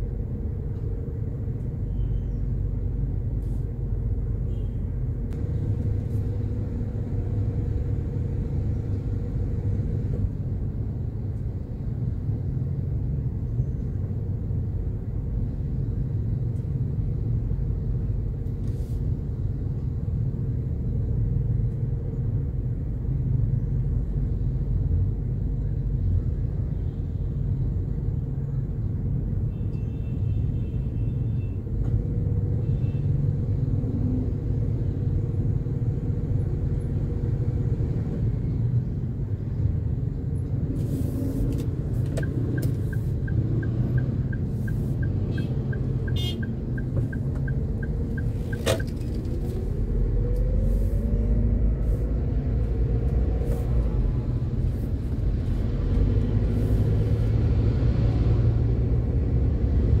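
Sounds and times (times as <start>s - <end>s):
car engine rumble: 0.0s - 29.8s, 31.5s - 60.0s
road noise: 0.0s - 60.0s.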